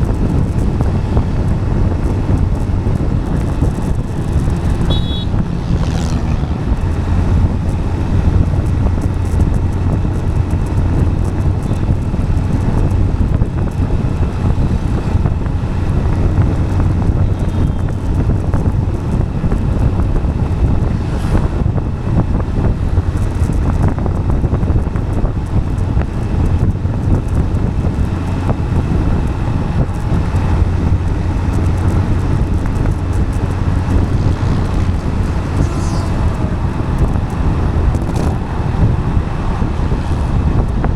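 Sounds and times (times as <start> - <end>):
vehicle road rumble: 0.0 - 40.9
wind noise on microphone: 0.0 - 40.9.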